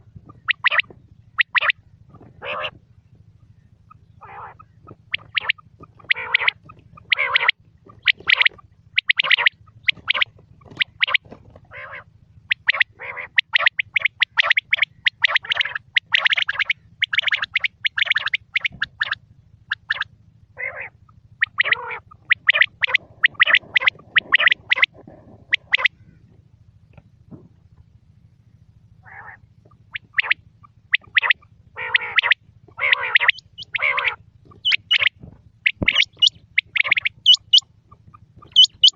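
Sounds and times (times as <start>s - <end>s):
quail calling: 0.0s - 27.3s, 29.0s - 38.9s
steady low hum: 0.0s - 38.9s.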